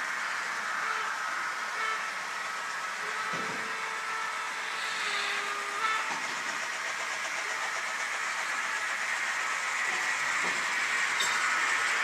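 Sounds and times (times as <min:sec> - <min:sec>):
model train rolling whir: 0:00.0 - 0:12.0.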